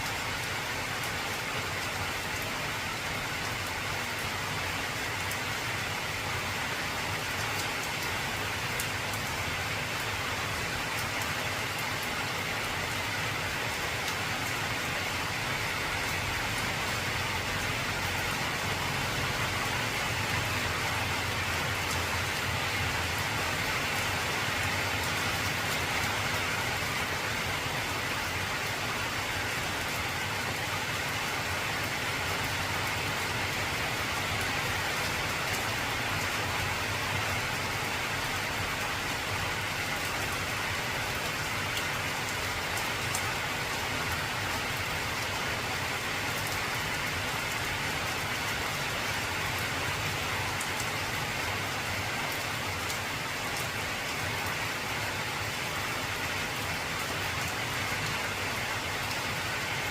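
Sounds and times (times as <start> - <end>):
heavy rain on metal roof: 0.0 - 59.9.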